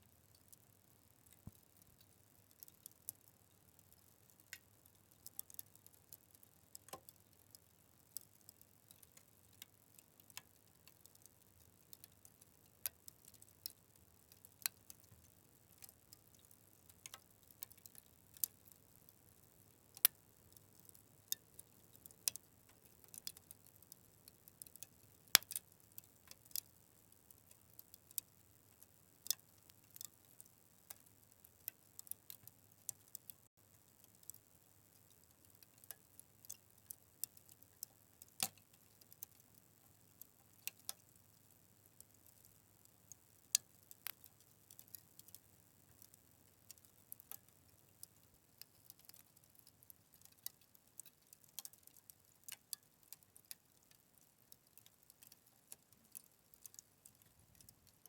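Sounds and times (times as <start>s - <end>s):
faint low hiss: 0.0s - 58.0s
wood fire crackling: 0.2s - 54.0s, 54.6s - 58.0s.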